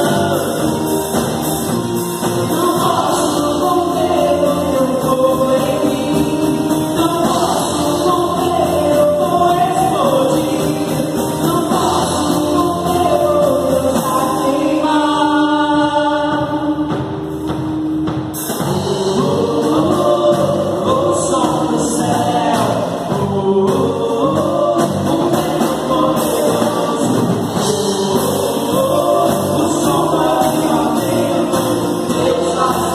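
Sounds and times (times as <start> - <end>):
group singing gospel song: 0.0 - 17.2, 18.4 - 32.9
band accompaniment: 0.0 - 32.9.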